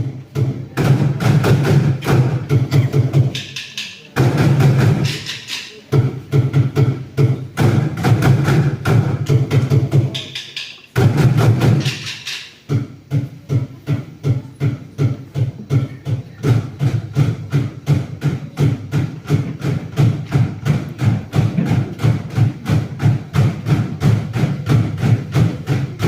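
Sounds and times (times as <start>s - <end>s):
group bucket drumming: 0.0s - 26.0s.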